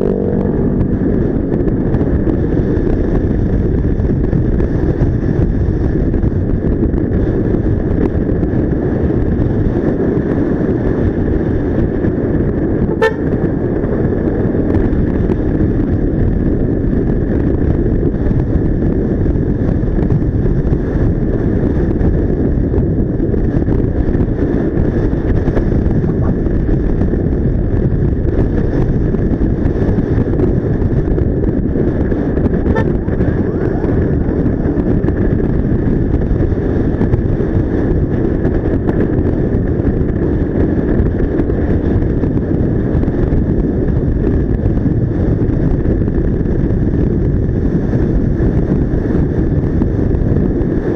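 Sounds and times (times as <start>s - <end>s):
scooter road noise: 0.0s - 50.9s
wind buffeting microphone: 0.0s - 50.9s.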